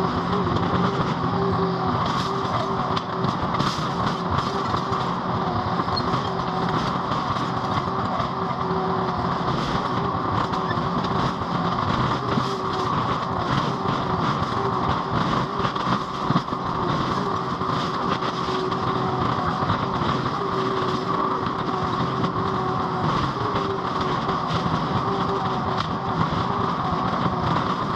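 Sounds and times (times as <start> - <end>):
skid steer engine running: 0.0 - 27.9.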